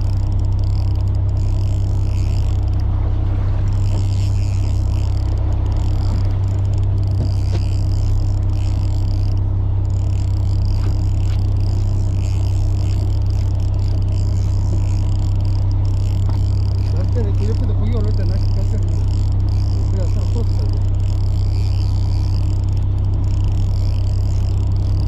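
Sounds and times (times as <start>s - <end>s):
boat engine droning: 0.0s - 25.0s
faint high whirr: 0.0s - 25.0s.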